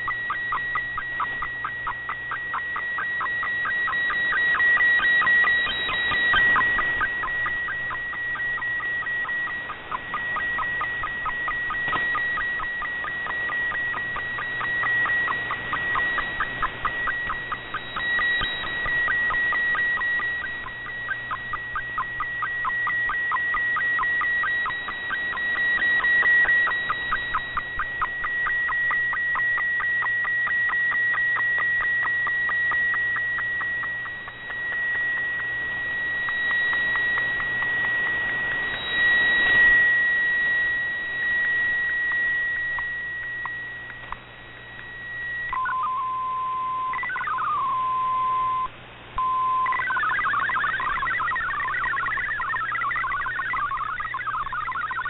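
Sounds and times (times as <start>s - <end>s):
digital data signal tones: 0.0s - 55.0s
gliding electronic chirps: 0.0s - 55.0s
radio band hiss: 0.0s - 55.0s.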